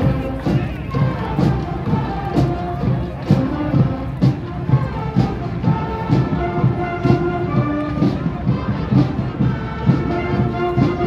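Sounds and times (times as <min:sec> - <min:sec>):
brass melody: 0:00.0 - 0:11.0
steady drum beat: 0:00.0 - 0:11.0.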